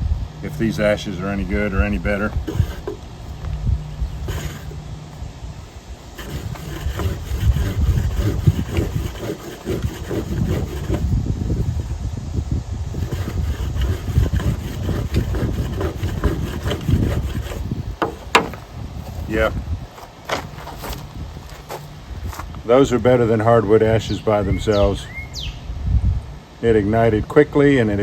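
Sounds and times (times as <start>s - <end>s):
board rubbing over a roll: 0.4s - 23.2s.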